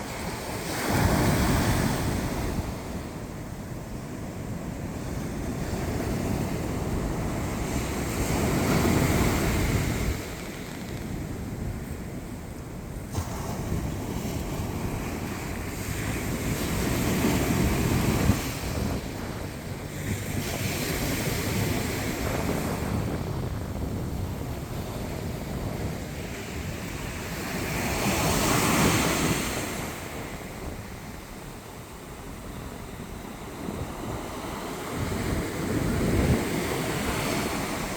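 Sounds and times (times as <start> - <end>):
sea waves breaking on beach: 0.0 - 37.9.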